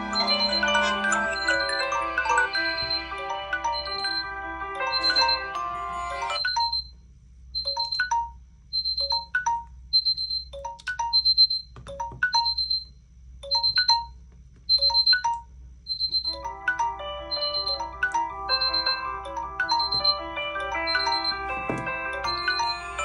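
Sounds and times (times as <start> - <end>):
overlapping phone alarm tones: 0.0 - 6.9, 7.6 - 12.9, 13.5 - 14.1, 14.7 - 23.0
phone tone beeping: 0.0 - 6.9, 7.6 - 12.9, 13.5 - 14.1, 14.7 - 23.0.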